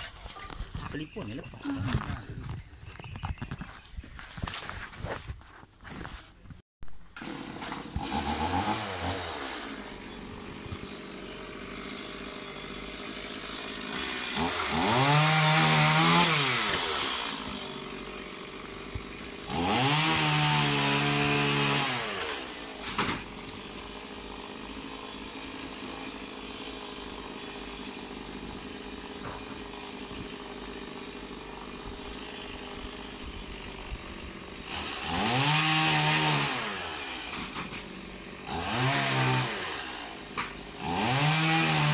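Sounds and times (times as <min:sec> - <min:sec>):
chainsaw idling and revving: 0:07.1 - 0:41.9.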